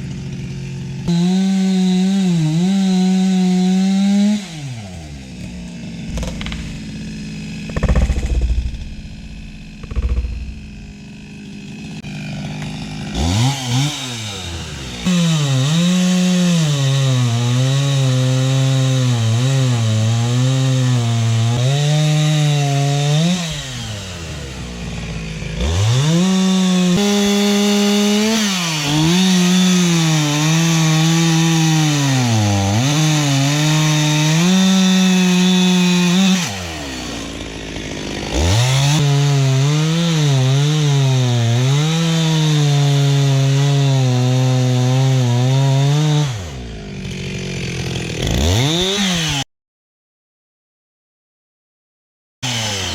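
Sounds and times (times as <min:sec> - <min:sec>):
chainsaw cutting wood: 0:00.0 - 0:49.5, 0:52.4 - 0:52.9.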